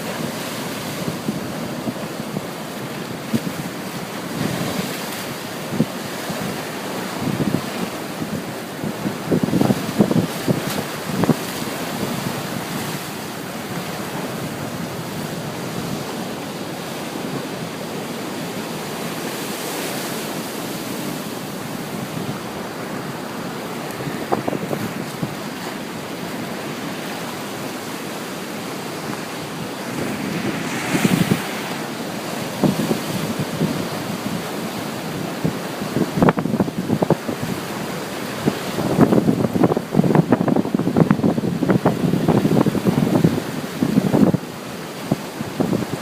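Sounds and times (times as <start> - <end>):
waves breaking: 0.0 - 46.0
wind rumbling on microphone: 0.0 - 46.0.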